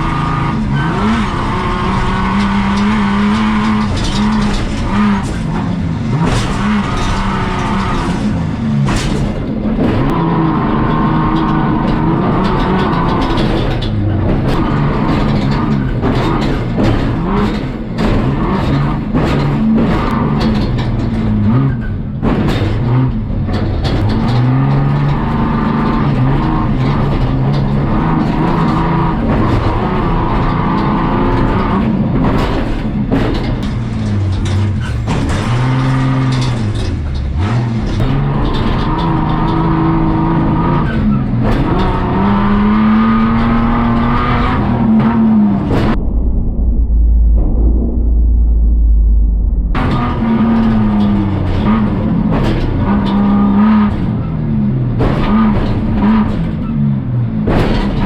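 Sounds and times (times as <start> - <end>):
chassis knocks and bangs: 0.0 - 58.0
off-road truck engine revving: 0.0 - 58.0.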